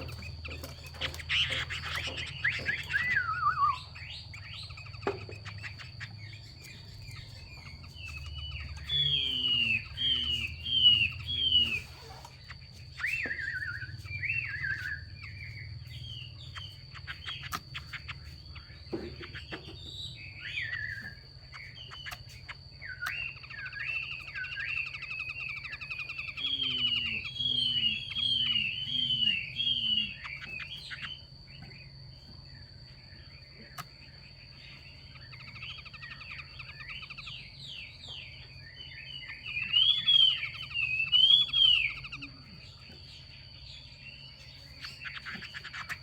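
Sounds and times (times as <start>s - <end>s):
bird whistled calls: 0.0s - 31.2s, 35.1s - 42.9s.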